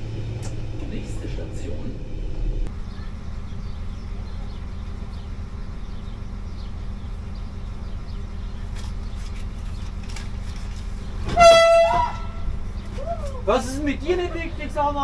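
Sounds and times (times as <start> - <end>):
train machinery hum and rumble: 0.0 - 15.0.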